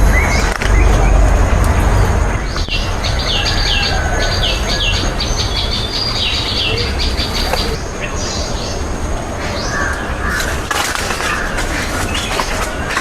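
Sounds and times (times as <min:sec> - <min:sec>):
bird chirping: 0:00.0 - 0:13.0
steady low rumble: 0:00.0 - 0:13.0.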